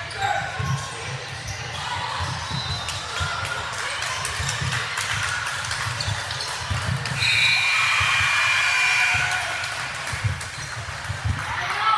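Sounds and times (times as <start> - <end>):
basketballs bouncing on gym floor: 0.0 - 7.2, 7.8 - 11.9.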